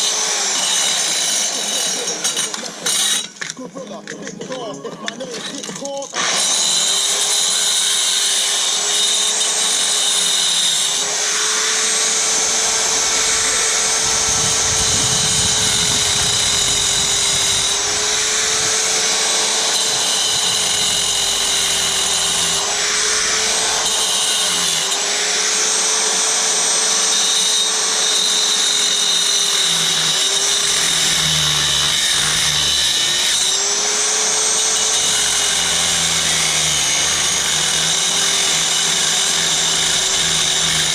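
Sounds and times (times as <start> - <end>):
power tool motor running: 0.0 - 3.6, 5.4 - 40.9.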